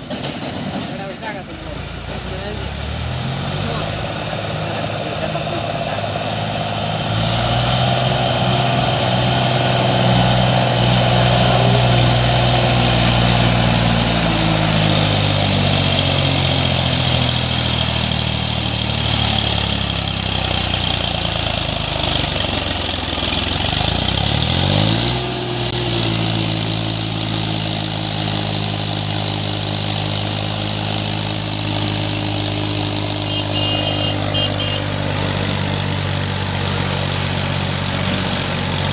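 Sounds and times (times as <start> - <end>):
tractor diesel engine lugging: 0.0 - 38.9.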